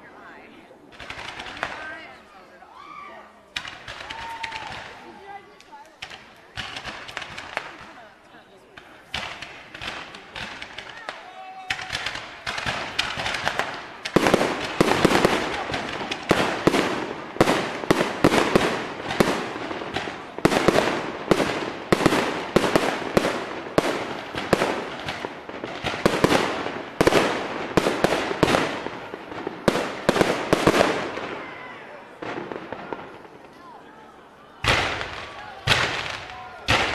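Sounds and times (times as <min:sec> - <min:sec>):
fireworks bangs echoing: 0:00.0 - 0:02.4, 0:03.5 - 0:36.9.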